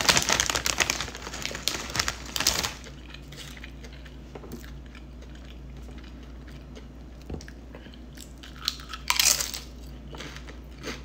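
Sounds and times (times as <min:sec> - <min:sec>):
crunchy chips chewing: 0:00.0 - 0:11.0.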